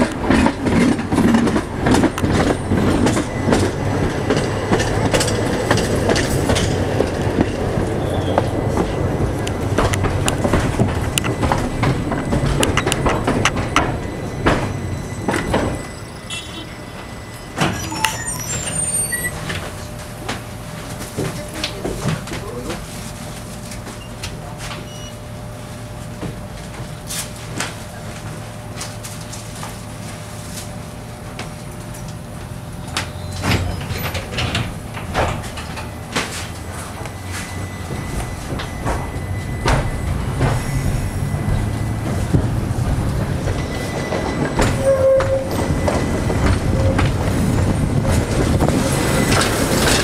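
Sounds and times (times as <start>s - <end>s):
tram cabin hum: 0.0s - 50.0s
tram wheels rumbling on rails: 0.0s - 50.0s.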